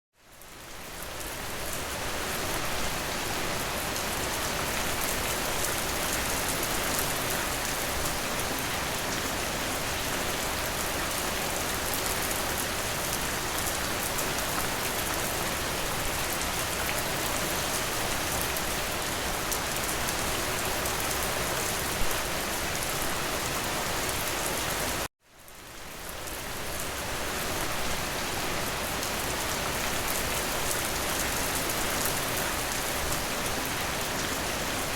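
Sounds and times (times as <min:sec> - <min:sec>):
heavy rain: 0:00.4 - 0:34.9.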